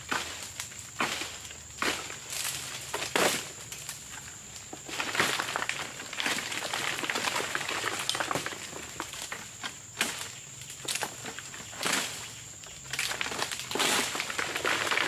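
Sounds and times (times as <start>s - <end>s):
dry leaves crackling and rustling: 0.0s - 15.0s
sharp cracks of fronds: 0.0s - 15.0s.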